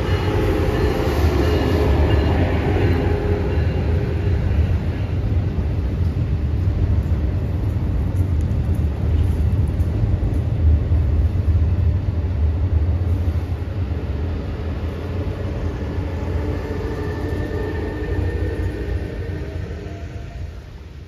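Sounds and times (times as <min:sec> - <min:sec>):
high train whine: 0:00.0 - 0:21.0
train rumbling over bridge: 0:00.0 - 0:21.0.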